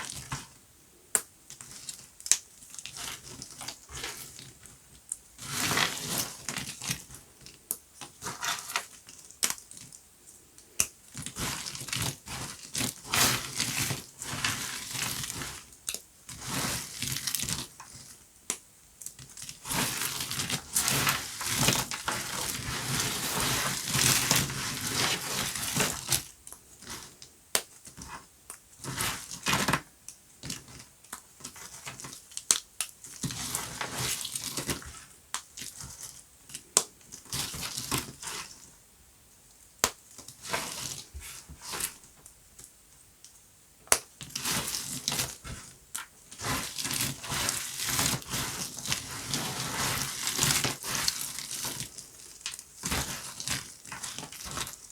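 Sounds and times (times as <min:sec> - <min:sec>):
crunchy soap crackling and snapping: 0:00.0 - 0:38.7, 0:39.6 - 0:54.9.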